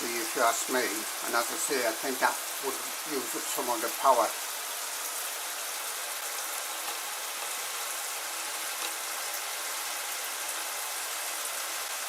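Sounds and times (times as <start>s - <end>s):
shower spray hissing: 0.0s - 12.0s.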